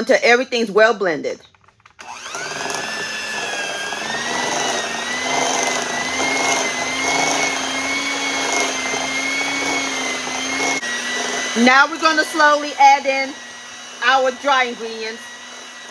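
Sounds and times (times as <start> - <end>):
electric hand mixer whining: 1.9 - 15.9.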